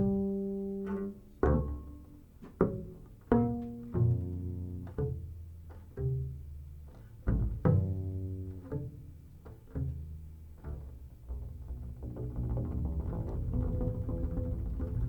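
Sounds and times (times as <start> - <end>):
plucked double bass notes: 0.0 - 15.0.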